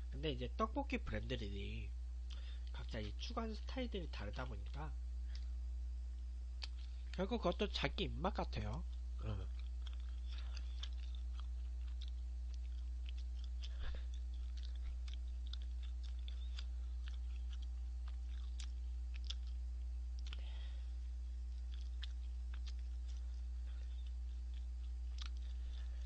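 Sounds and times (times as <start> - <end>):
low electrical hum: 0.0 - 26.0
wet chewing clicks and smacks: 2.2 - 5.6, 6.6 - 26.0.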